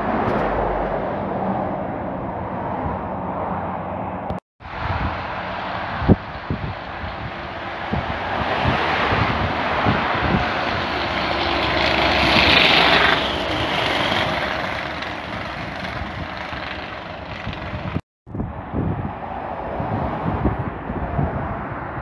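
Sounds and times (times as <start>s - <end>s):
truck passing on highway: 0.0s - 18.0s
traffic: 0.0s - 22.0s.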